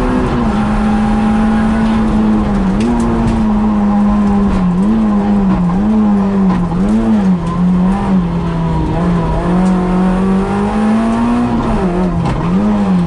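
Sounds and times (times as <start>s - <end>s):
rally car engine from inside: 0.0s - 13.0s.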